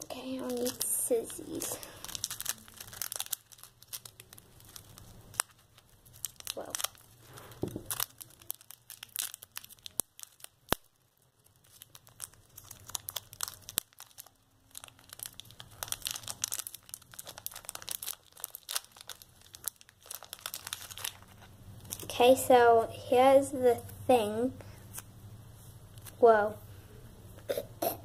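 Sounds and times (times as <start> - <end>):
wrapper crackling and tearing: 0.0 - 22.5.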